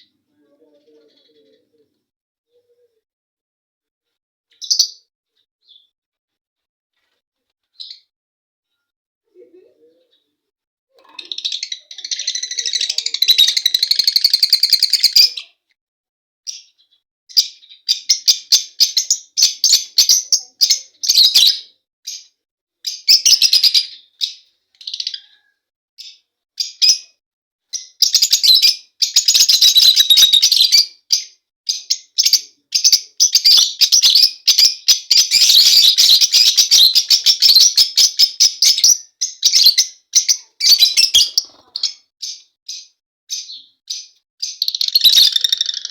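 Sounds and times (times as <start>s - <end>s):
lovebirds chirping: 0.0s - 3.0s, 4.5s - 5.9s, 7.7s - 8.1s, 11.0s - 15.6s, 16.5s - 27.1s, 27.7s - 45.9s.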